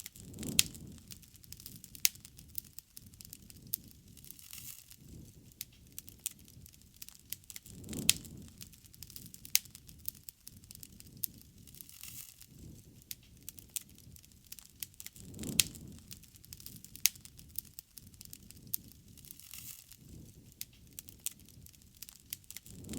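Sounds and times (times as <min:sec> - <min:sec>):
wood bonfire crackling: 0:00.0 - 0:22.9.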